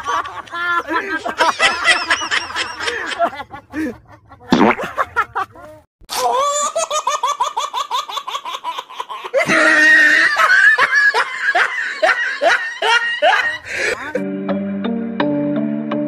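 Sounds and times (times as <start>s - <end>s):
hearty laughter: 0.0s - 14.2s.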